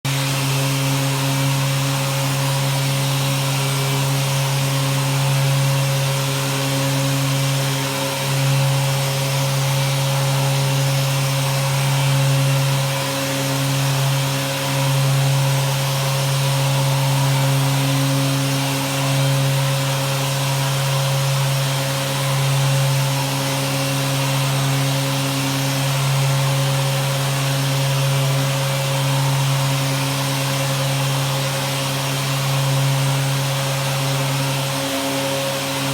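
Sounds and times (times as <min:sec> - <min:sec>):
electric sander motor hum: 0:00.1 - 0:35.9.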